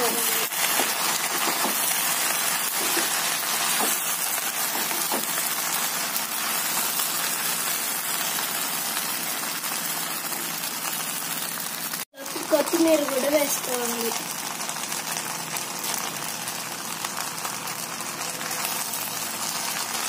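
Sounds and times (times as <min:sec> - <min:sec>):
pasta sizzling in a pan: 0:00.0 - 0:20.0.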